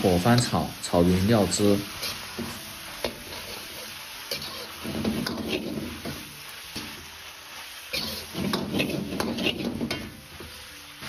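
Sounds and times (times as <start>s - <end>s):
food sizzling: 0.0s - 11.0s
metal spatula scraping a wok: 1.6s - 11.0s.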